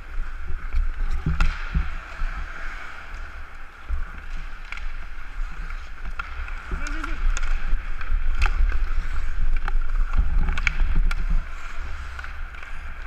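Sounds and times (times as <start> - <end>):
sticks and puck clacking: 0.0 - 13.0.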